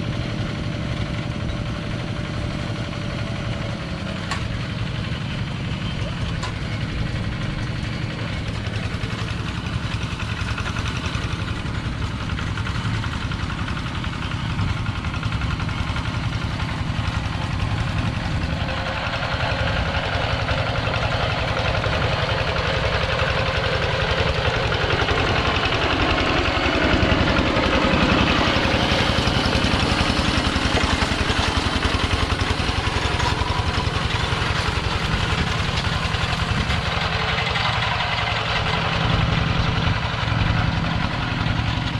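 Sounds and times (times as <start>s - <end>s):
walking tractor engine running: 0.0s - 41.9s.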